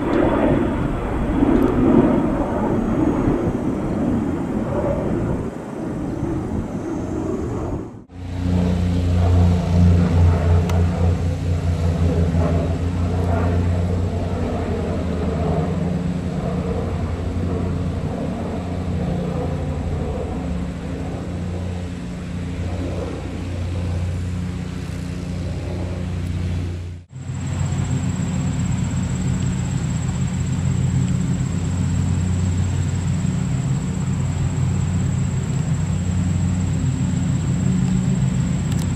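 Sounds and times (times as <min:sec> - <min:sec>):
propeller plane drone: 0:00.0 - 0:38.9.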